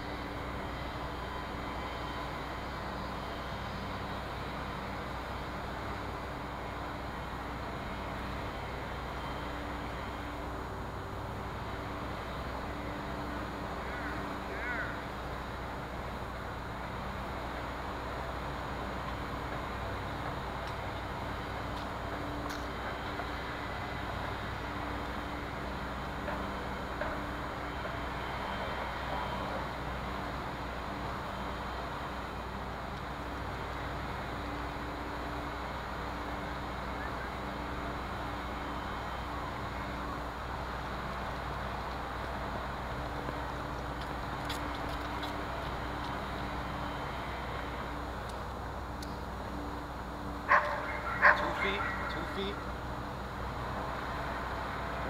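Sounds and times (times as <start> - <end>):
distant traffic hum: 0.0 - 55.0.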